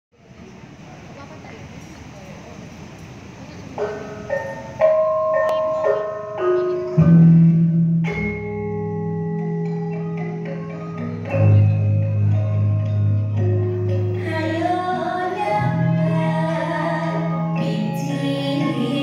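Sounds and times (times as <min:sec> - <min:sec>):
metallophones ringing melody: 0:03.7 - 0:19.0.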